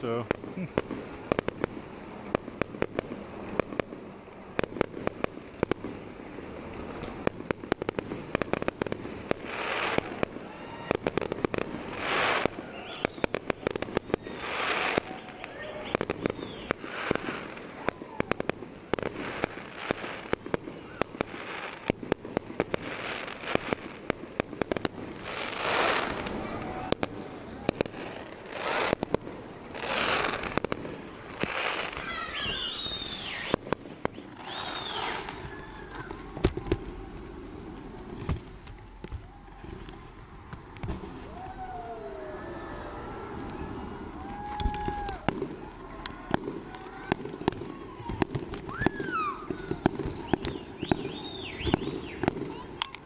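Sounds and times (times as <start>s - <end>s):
fireworks hissing crackle: 0.0s - 53.0s
fireworks popping and banging: 0.0s - 53.0s.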